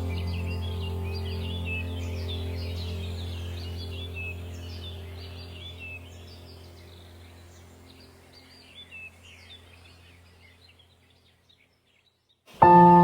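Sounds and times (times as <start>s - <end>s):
low steady drone: 0.0s - 10.7s
songbirds chirping and twittering: 0.0s - 13.0s.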